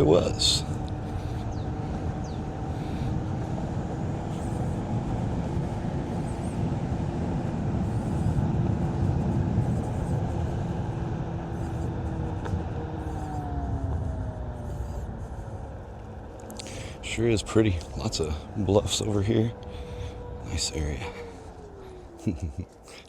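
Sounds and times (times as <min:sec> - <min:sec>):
electric board motor whining: 0:00.0 - 0:22.3
tyre and wind rumble: 0:00.0 - 0:22.8.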